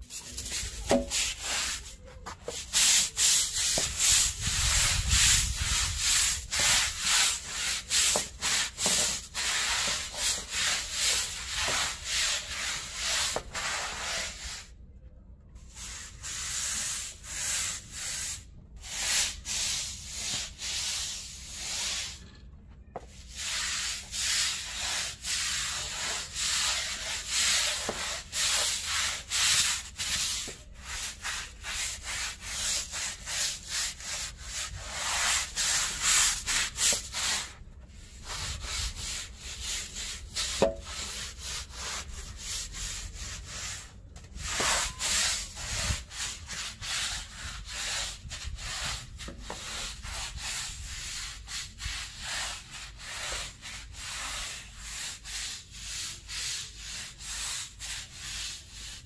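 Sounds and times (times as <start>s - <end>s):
deck brush scrubbing wet concrete: 0.0s - 14.6s, 15.8s - 22.2s, 23.2s - 59.0s.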